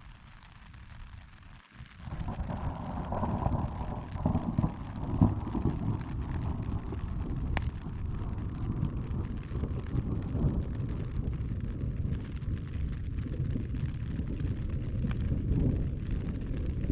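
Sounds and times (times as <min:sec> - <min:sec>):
thunder rumble: 0:00.0 - 0:16.9
wind buffeting microphone: 0:01.8 - 0:16.9.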